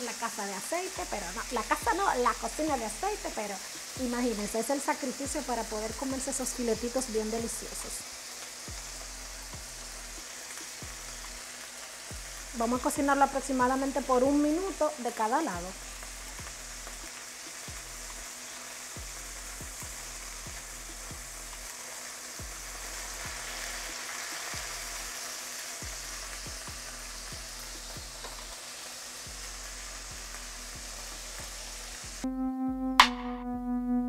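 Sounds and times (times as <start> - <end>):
meat sizzling in oil: 0.0 - 32.2
music: 0.0 - 34.0.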